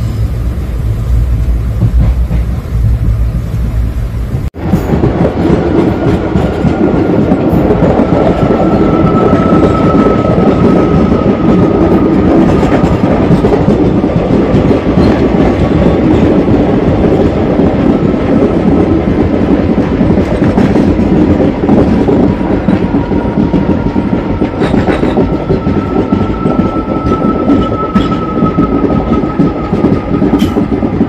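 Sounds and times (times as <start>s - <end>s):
train wheels running on rails: 0.0s - 31.0s.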